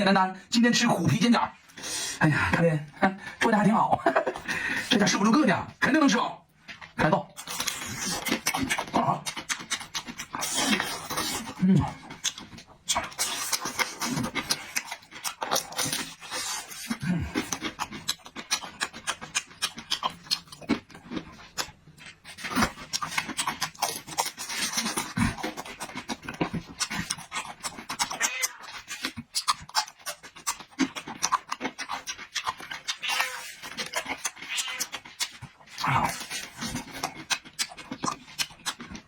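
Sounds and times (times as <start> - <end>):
person chewing with wet clicks: 6.7 - 39.0.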